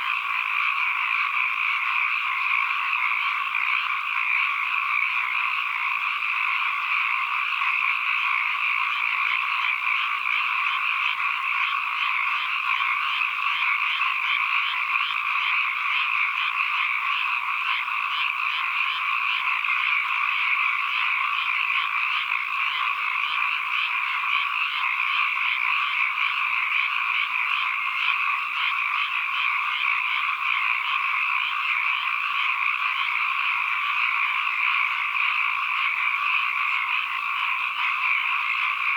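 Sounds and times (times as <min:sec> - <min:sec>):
chorus of frogs calling: 0:00.0 - 0:38.9.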